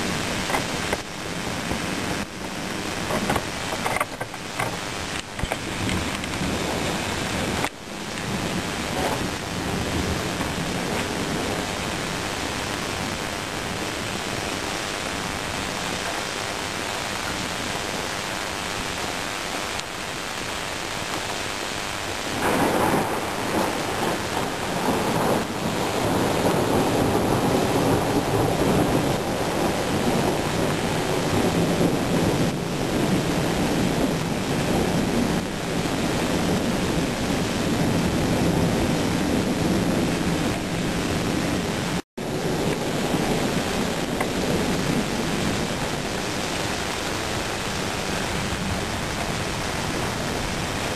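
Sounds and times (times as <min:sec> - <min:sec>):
thunder rolling: 0:00.0 - 0:17.8, 0:22.2 - 0:50.9
rain hissing: 0:00.0 - 0:50.9.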